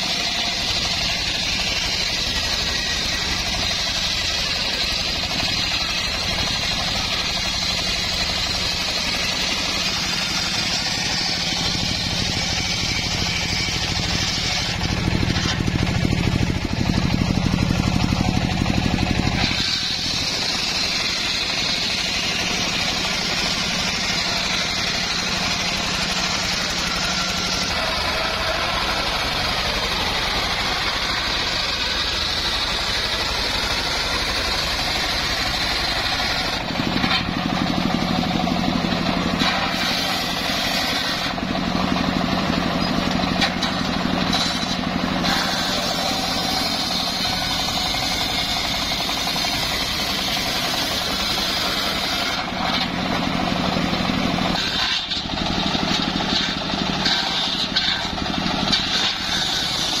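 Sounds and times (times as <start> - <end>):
circular saw blade whining: 0.0 - 60.0
machine engine running: 0.0 - 60.0.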